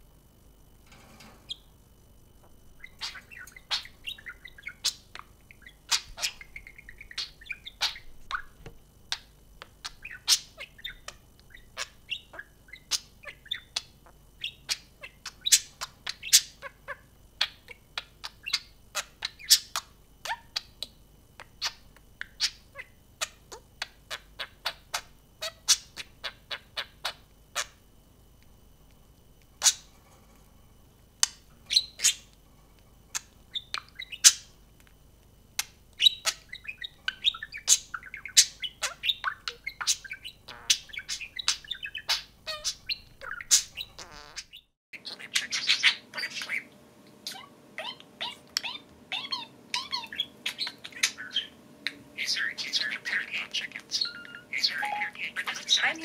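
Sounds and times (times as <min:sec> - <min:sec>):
budgerigars chirping: 0:02.7 - 0:27.8, 0:29.6 - 0:29.9, 0:31.2 - 0:32.3, 0:33.1 - 0:34.5, 0:35.6 - 0:46.7, 0:47.3 - 0:56.0.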